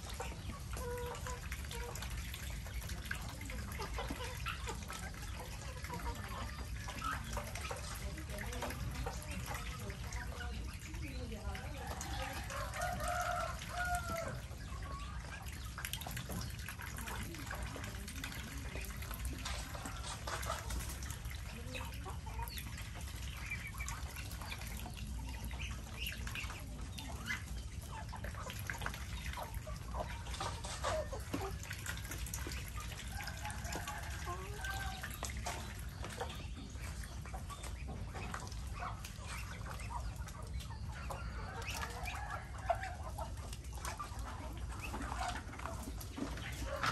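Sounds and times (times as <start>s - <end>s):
ducks calling: 0.0s - 46.9s
hens clucking: 0.0s - 46.9s.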